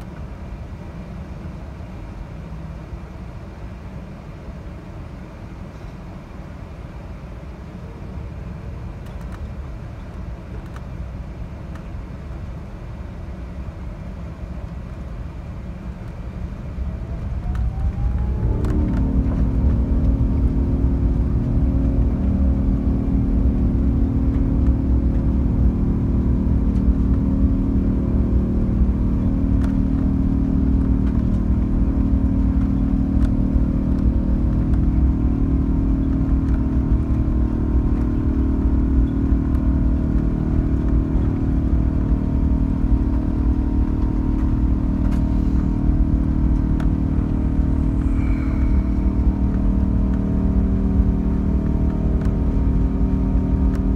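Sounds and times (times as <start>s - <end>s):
jet engines droning in cabin: 0.0s - 53.9s.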